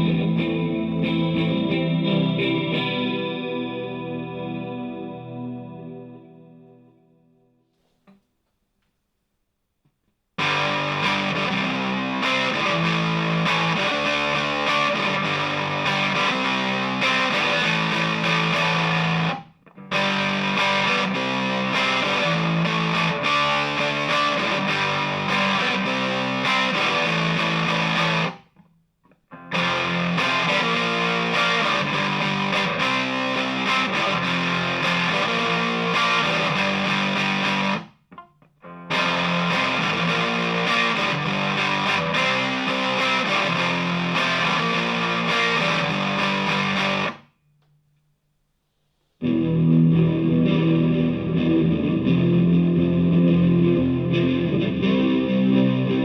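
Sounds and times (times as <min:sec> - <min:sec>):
electric guitar playing: 0:00.0 - 0:07.6, 0:10.4 - 0:28.5, 0:29.3 - 0:47.3, 0:49.2 - 0:56.0.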